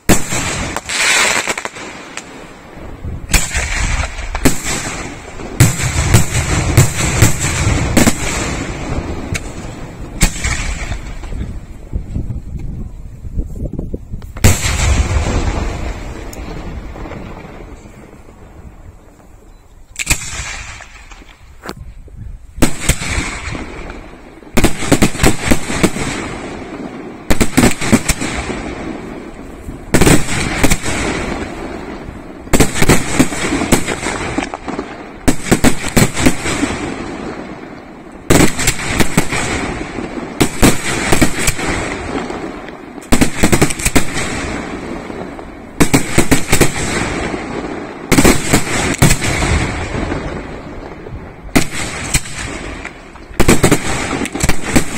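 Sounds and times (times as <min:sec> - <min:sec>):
fireworks bursting with echo: 0:00.0 - 0:54.9.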